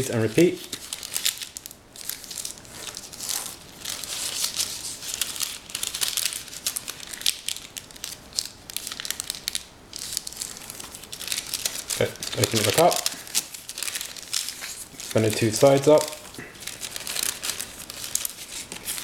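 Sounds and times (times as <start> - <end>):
paper crinkling as folded: 0.0 - 19.0.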